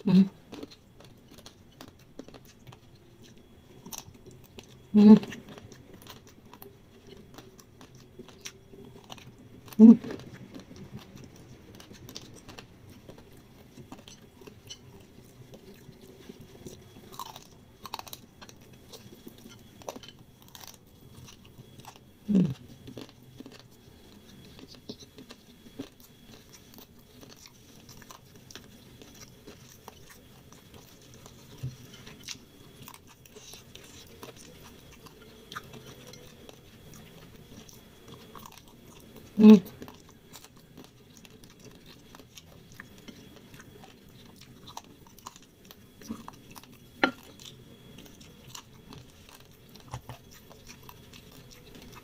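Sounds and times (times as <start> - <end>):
chewing and wet mouth sounds: 0.0 - 52.0.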